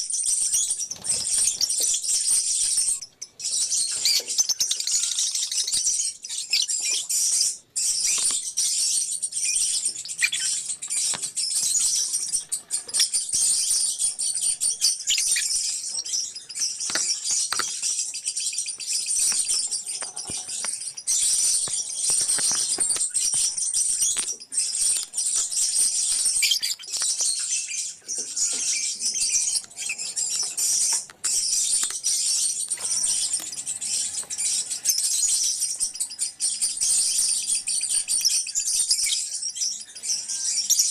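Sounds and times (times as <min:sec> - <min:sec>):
lovebirds chirping and chattering: 0:00.0 - 0:40.9.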